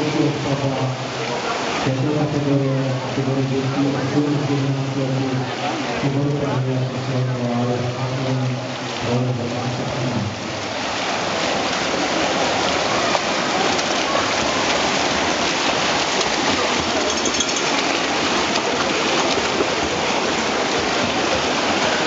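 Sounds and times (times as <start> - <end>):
swimmers splashing: 0.0 - 22.0.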